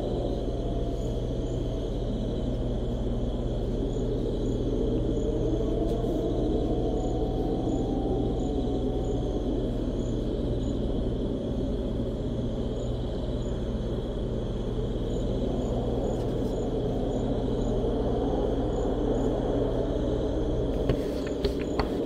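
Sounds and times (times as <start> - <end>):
cricket trill: 0.0 - 22.0
wind rumble: 0.0 - 22.0.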